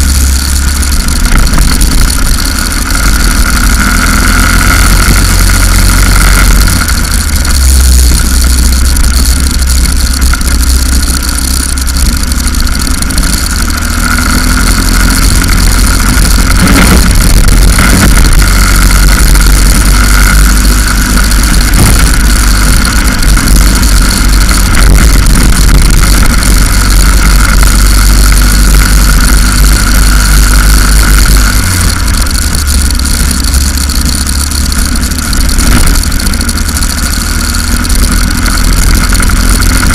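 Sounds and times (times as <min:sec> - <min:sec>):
go-kart engine racing: 0:00.0 - 0:39.9
wind rumble on microphone: 0:00.0 - 0:39.9.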